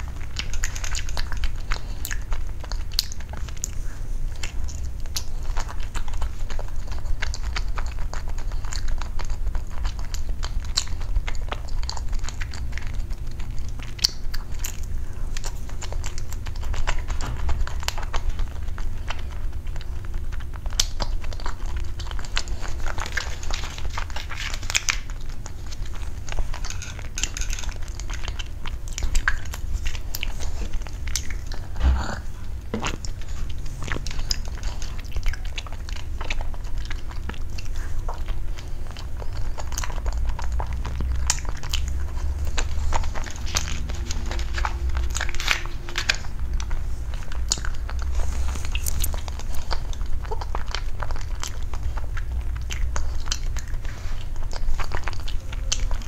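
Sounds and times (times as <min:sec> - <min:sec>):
mouth clicks and smacks: 0:00.0 - 0:56.0
person chewing soft food: 0:00.0 - 0:56.0.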